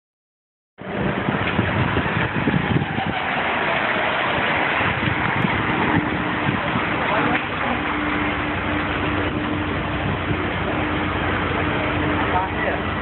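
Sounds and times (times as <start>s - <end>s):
loud city street noise: 0.8s - 13.0s
vehicle engine running: 0.8s - 13.0s.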